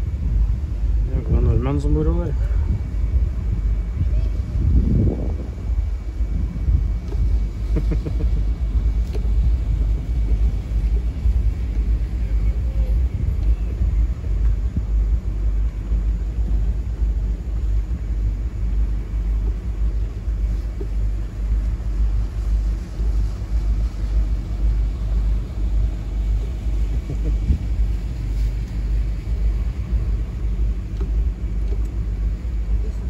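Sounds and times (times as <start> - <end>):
motor boat rumble: 0.0 - 33.0.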